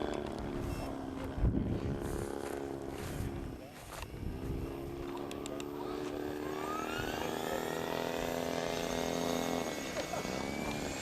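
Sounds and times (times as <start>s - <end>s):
model helicopter motor and rotor hum: 0.0s - 11.0s
rising rotor whine: 0.0s - 11.0s.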